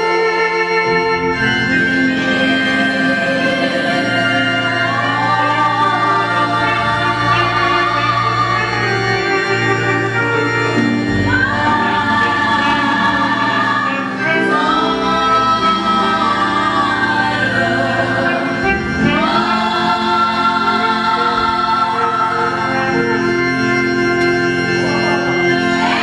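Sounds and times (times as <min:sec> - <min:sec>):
choir singing a hymn: 0:00.0 - 0:26.0
organ accompaniment: 0:00.0 - 0:26.0.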